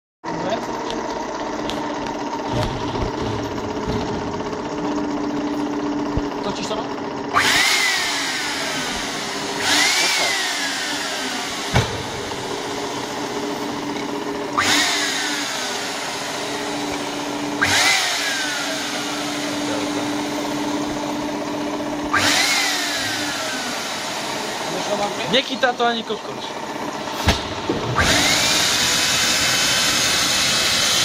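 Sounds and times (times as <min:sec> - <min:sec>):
steady hum: 0:01.4 - 0:28.8
turbine air rush and whine: 0:02.4 - 0:31.0.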